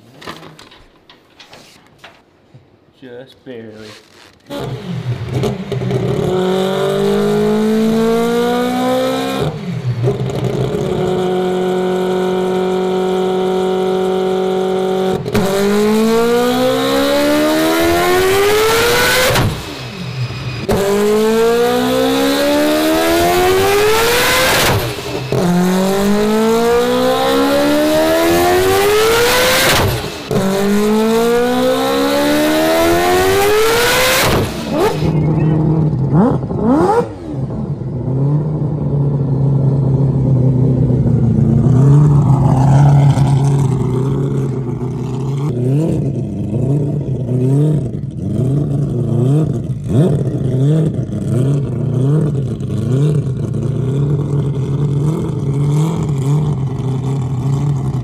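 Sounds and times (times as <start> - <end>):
rotary engine revving on dyno: 4.5 - 38.5, 41.4 - 54.2.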